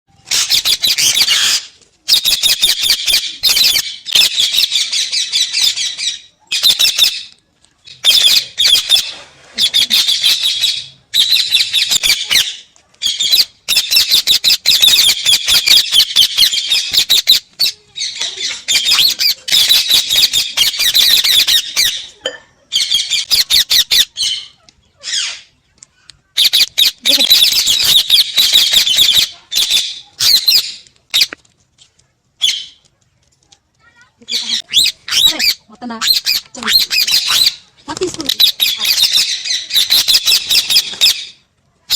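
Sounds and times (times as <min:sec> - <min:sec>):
parrots squawking: 0:00.2 - 0:07.3, 0:07.9 - 0:25.6, 0:26.4 - 0:31.4, 0:32.4 - 0:32.8, 0:34.2 - 0:41.4.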